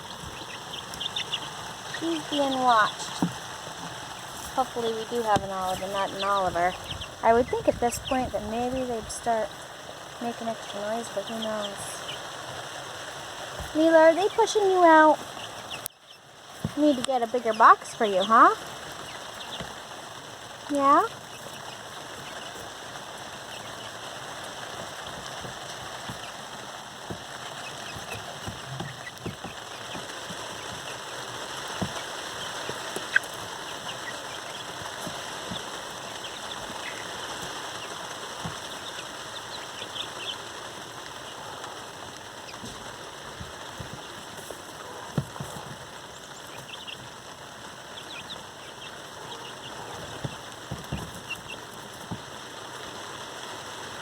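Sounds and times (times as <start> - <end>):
chicks peeping: 0.0 - 54.0
rain falling: 0.0 - 54.0.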